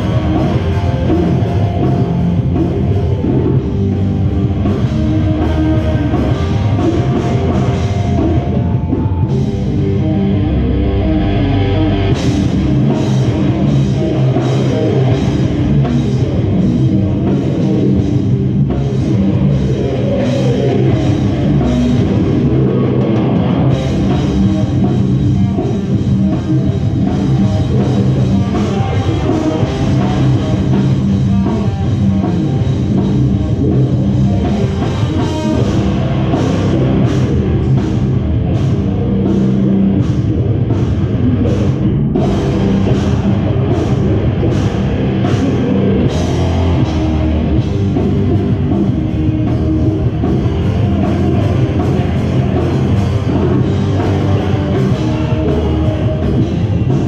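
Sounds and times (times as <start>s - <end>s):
metalcore band playing: 0.0s - 57.0s.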